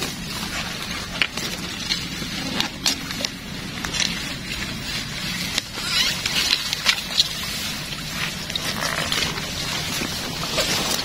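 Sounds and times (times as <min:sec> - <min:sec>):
crackles: 0:00.0 - 0:11.0
low steady hum: 0:00.0 - 0:11.0
plants rustling and snapping: 0:00.0 - 0:11.0.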